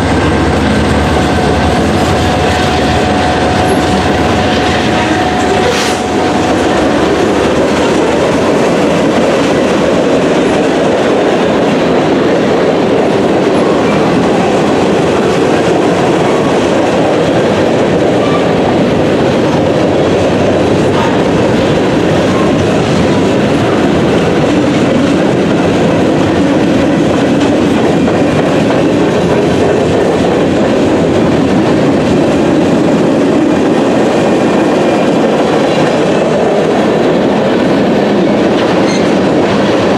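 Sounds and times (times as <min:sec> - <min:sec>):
freight cars rumbling on rails: 0:00.0 - 0:39.9.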